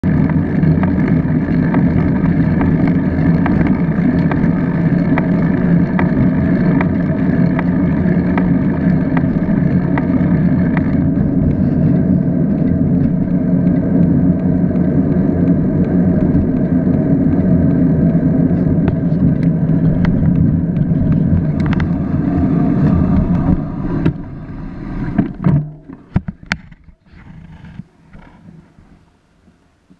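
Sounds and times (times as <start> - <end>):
wind and road noise: 0.0 - 29.9
sharp clicks and knocks: 0.1 - 15.2, 15.8 - 24.3, 25.0 - 28.4.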